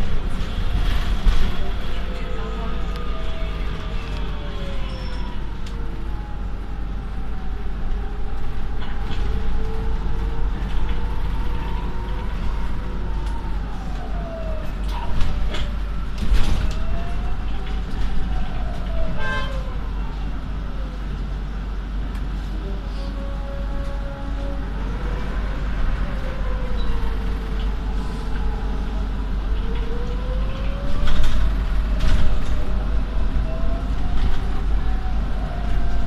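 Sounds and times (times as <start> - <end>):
bus engine rumble: 0.0 - 36.0.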